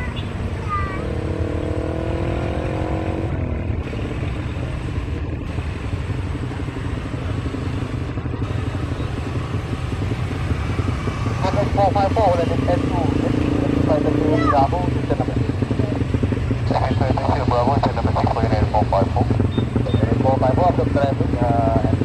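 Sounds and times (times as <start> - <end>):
engine rumble: 0.0 - 22.0.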